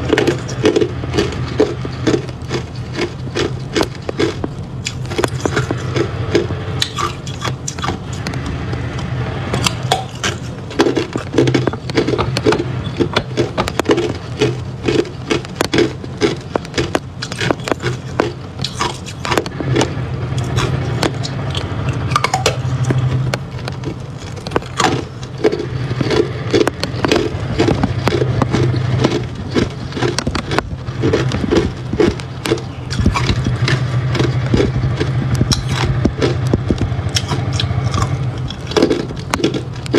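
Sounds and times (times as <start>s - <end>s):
ice being chewed: 0.0s - 39.9s
steady low hum: 0.0s - 39.9s.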